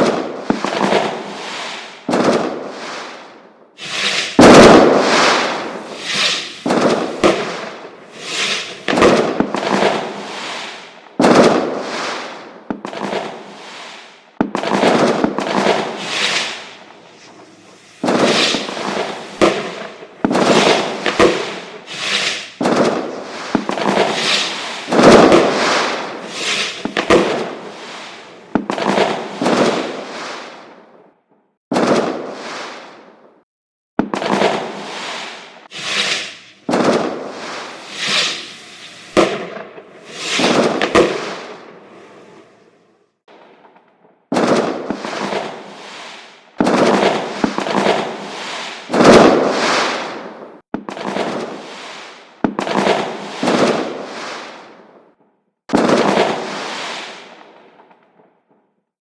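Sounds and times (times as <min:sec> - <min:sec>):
fireworks bangs: 0:00.0 - 0:30.8, 0:31.7 - 0:33.3, 0:34.0 - 0:54.9, 0:55.7 - 0:58.3.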